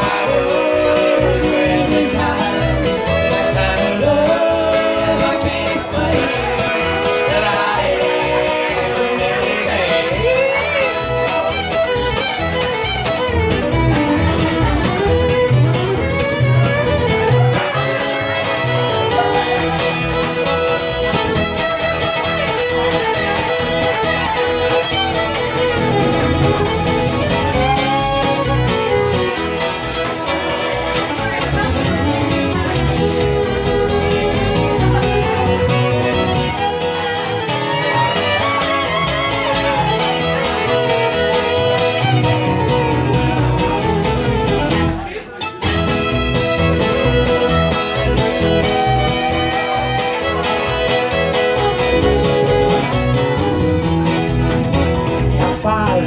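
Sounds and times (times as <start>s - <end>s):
fiddle melody: 0.0s - 56.0s
strummed acoustic guitar: 0.0s - 56.0s
upright bass: 0.0s - 56.0s.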